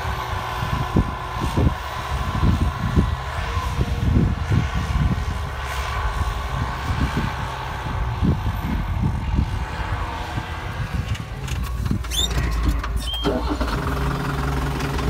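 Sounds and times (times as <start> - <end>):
tractor diesel engine running hard: 0.0 - 15.0.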